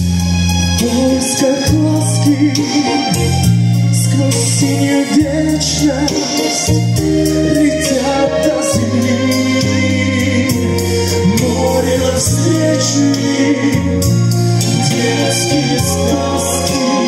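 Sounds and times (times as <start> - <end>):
low held bass notes: 0.0 - 17.0
male vocal quartet singing: 0.6 - 17.0.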